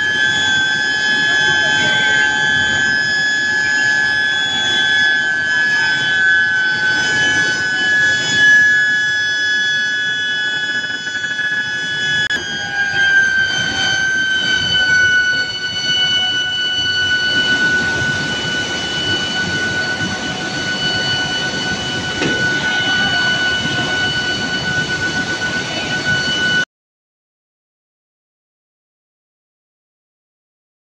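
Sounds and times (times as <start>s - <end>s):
machinery noise: 0.0s - 26.6s
induction furnace whining: 0.0s - 26.7s.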